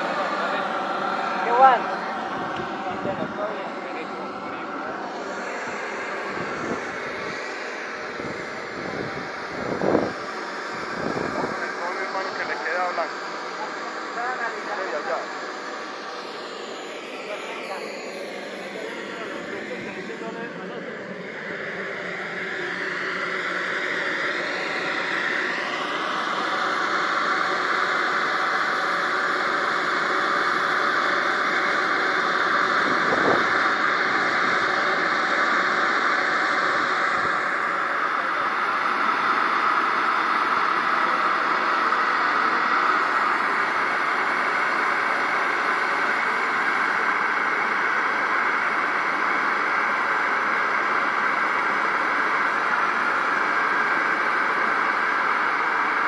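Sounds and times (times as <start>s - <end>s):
jet turbine roar and whistle: 0.0s - 56.0s.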